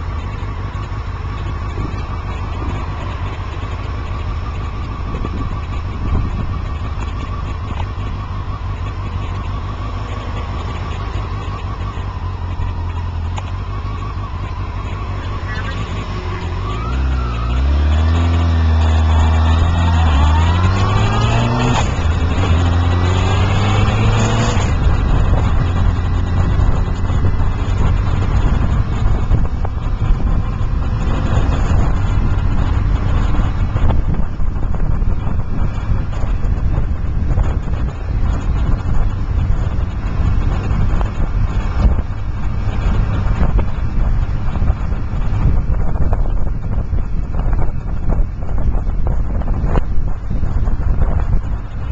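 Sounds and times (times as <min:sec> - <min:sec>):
steady rumbling noise: 0:00.0 - 0:51.9
vehicle engine: 0:00.0 - 0:51.9.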